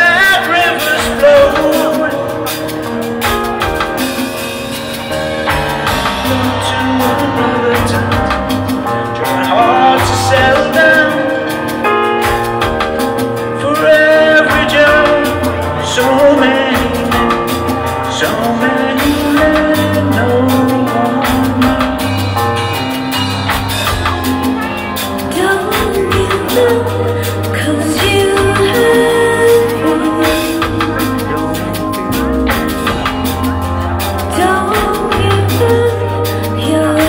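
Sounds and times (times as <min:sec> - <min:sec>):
person singing: 0:00.0 - 0:23.1, 0:23.8 - 0:37.0
drum kit: 0:00.0 - 0:37.0
electric bass guitar: 0:00.0 - 0:37.0
live rock band playing: 0:00.0 - 0:37.0.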